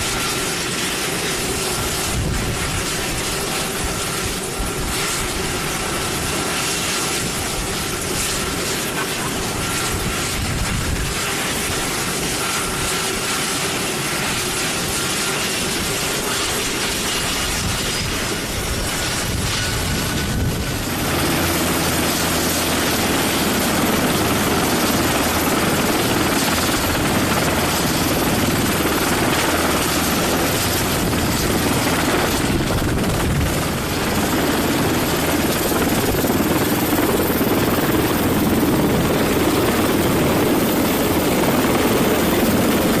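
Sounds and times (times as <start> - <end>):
helicopter rotor and turbine: 0.0 - 43.0.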